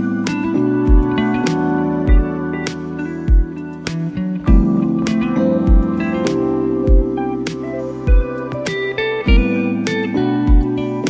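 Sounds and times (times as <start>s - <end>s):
instrumental music with picked notes: 0.0s - 11.0s.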